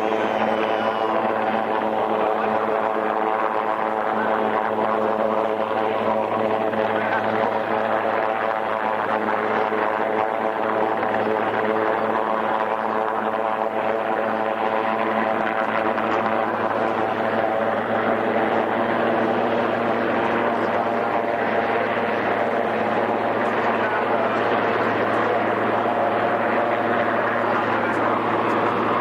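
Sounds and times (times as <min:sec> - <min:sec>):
helicopter hovering: 0:00.0 - 0:29.0.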